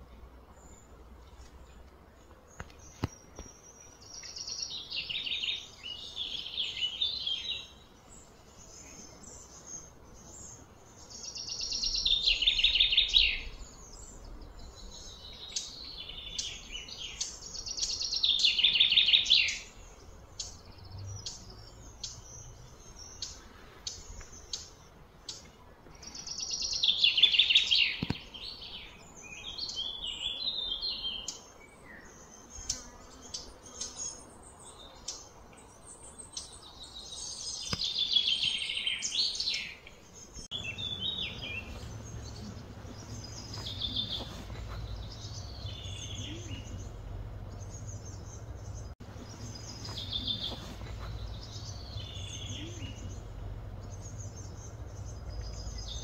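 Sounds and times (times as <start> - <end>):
bird chirps: 1.6 - 56.0.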